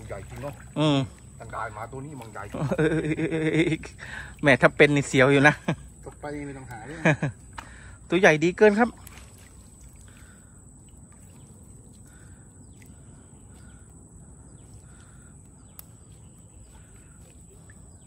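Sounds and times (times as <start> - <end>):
distant bird calls: 0.0 - 18.0.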